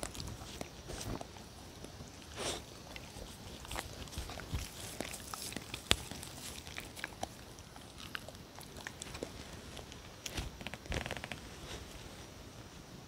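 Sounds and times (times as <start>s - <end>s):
dogs licking and chewing: 0.0s - 10.9s.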